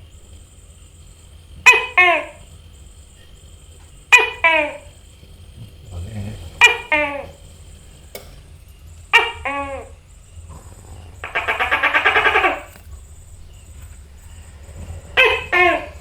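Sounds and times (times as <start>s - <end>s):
gecko calling: 0.0s - 16.0s.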